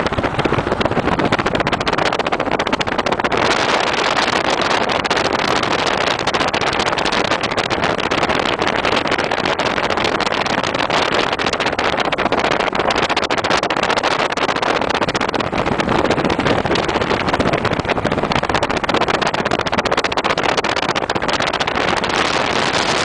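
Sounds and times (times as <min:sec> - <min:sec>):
wind and road noise: 0:00.0 - 0:23.0
wind buffeting microphone: 0:00.0 - 0:23.0.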